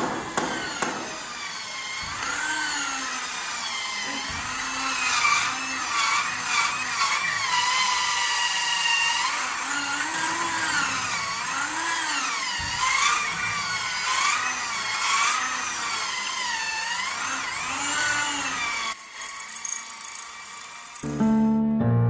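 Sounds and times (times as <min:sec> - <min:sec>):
electric drill boring into wall: 0:00.0 - 0:21.2.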